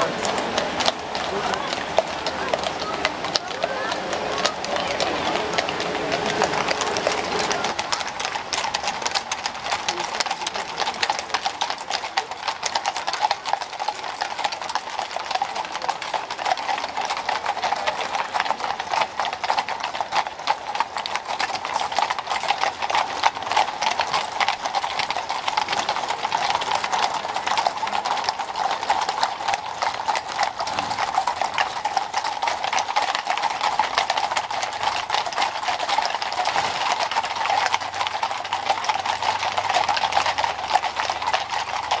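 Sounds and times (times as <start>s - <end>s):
horse hooves on pavement: 0.0s - 42.0s.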